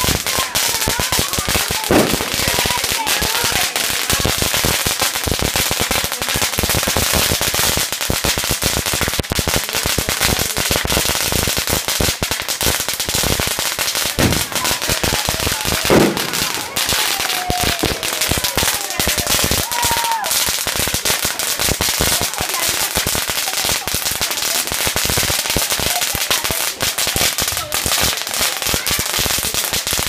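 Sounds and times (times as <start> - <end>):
firecrackers popping and banging: 0.0 - 30.0.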